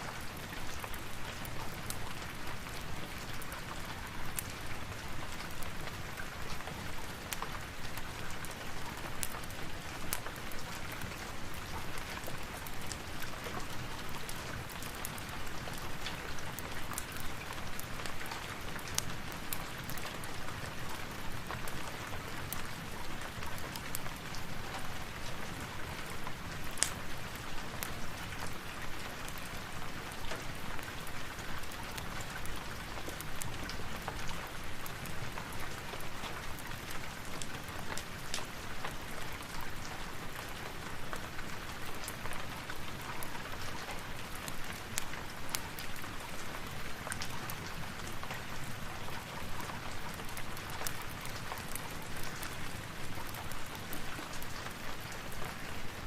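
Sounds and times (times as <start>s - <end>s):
log fire crackling and popping: 0.2s - 55.6s.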